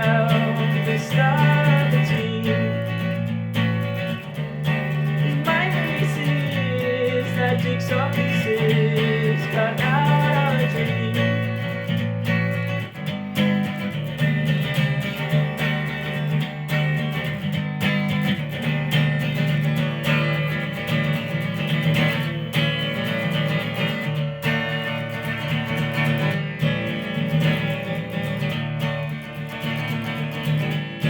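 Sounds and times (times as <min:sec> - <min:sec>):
strummed guitars: 0:00.0 - 0:31.0.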